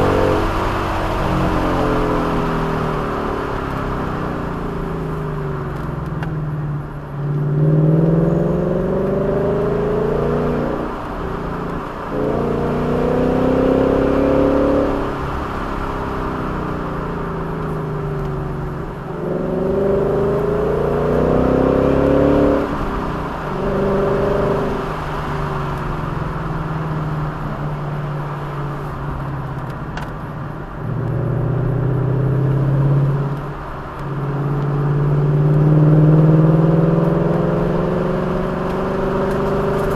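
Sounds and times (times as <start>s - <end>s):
road noise: 0.0s - 39.9s
vehicle engine revving: 0.0s - 39.9s.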